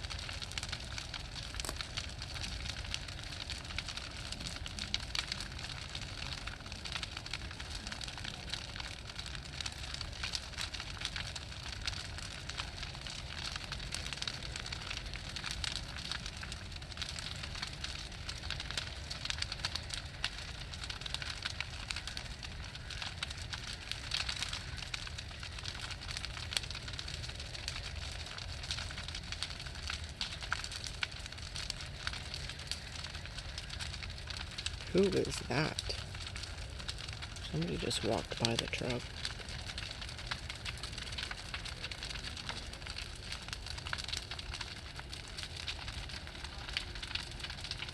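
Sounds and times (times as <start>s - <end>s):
bonfire crackling: 0.0s - 47.9s
low steady fire rumble: 0.0s - 47.9s.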